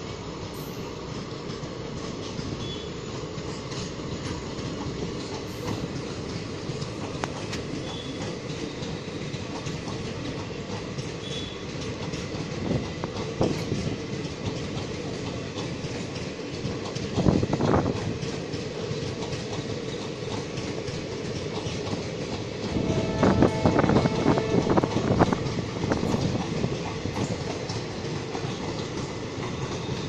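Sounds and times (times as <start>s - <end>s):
train coaches rolling on rails: 0.0s - 30.0s.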